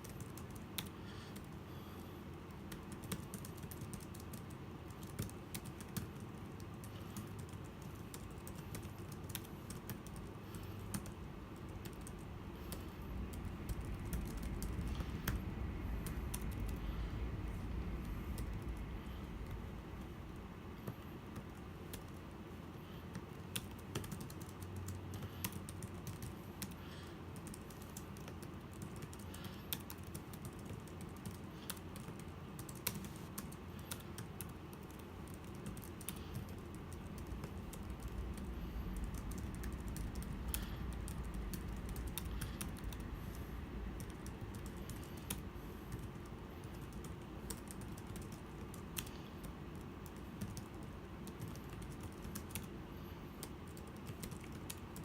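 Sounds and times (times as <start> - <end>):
low background rumble: 0.0 - 55.0.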